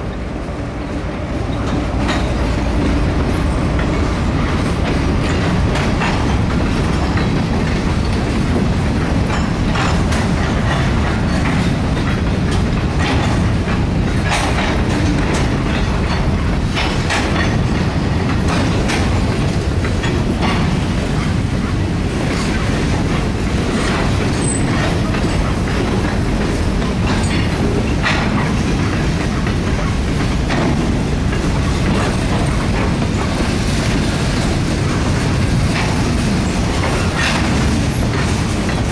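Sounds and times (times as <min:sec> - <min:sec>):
train wheels rumbling on rails: 0:00.0 - 0:38.9
wheels clanking over rail joints: 0:00.0 - 0:38.9.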